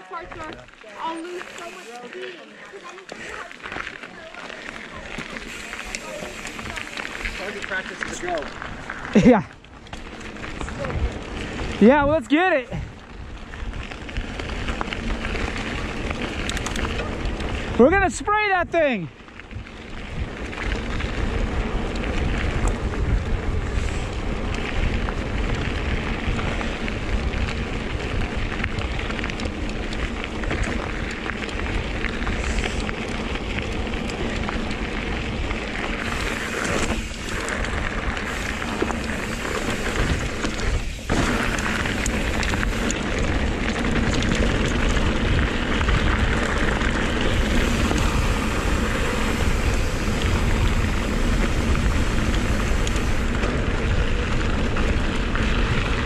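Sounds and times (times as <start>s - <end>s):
wind roaring over microphone: 6.3s - 18.1s, 19.2s - 56.0s.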